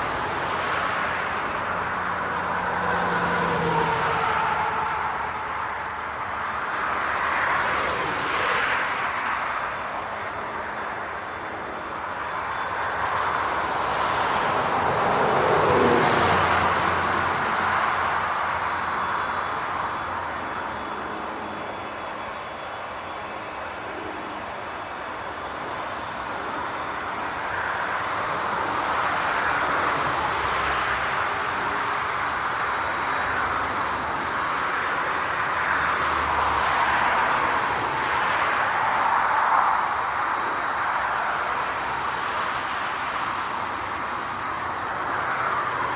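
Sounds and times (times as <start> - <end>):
jet airliner passing: 0.0 - 45.9.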